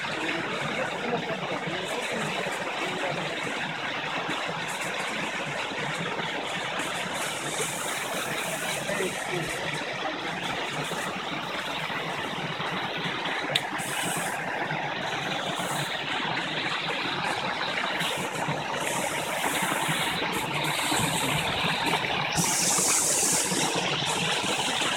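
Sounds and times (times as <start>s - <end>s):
waterfall and stream rushing: 0.0s - 24.9s.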